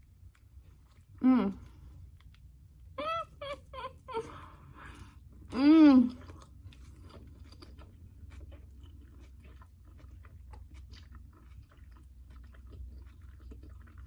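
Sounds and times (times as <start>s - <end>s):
chewing sandwich: 0.0s - 14.0s.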